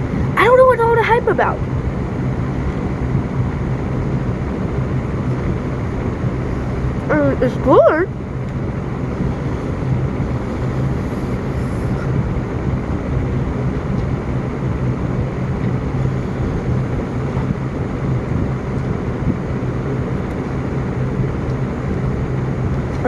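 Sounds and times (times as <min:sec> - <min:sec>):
constant rushing noise: 0:00.0 - 0:23.0
steady low hum: 0:00.0 - 0:23.0.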